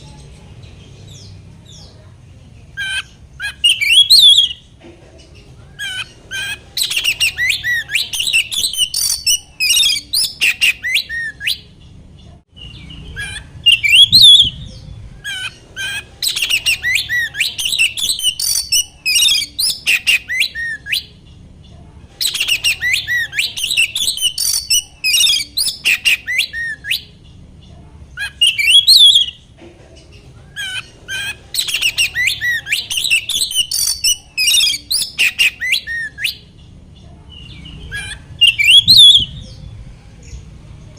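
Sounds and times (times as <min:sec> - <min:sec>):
magpie-robin singing: 0:00.0 - 0:40.6.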